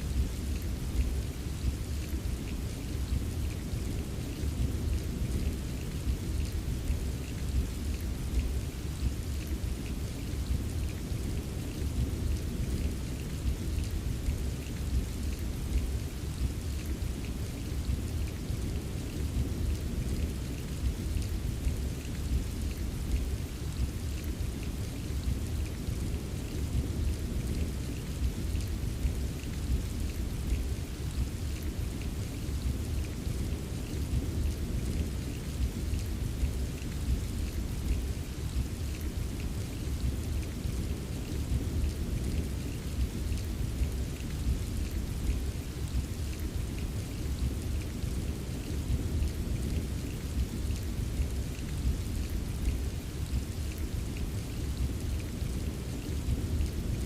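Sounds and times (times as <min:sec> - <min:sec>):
patter of raindrops: 0:00.0 - 0:57.0
steady rain: 0:00.0 - 0:57.0.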